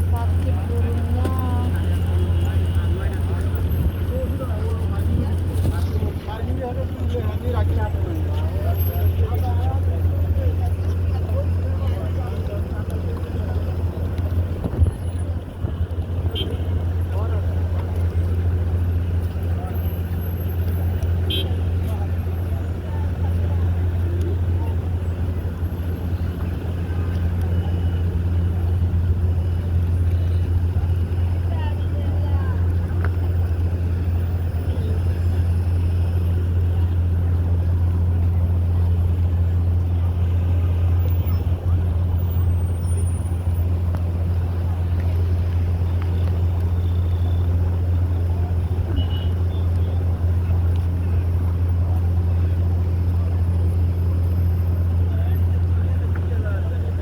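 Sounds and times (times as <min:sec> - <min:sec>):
faint busy background: 0:00.0 - 0:57.0
low engine hum: 0:00.0 - 0:57.0.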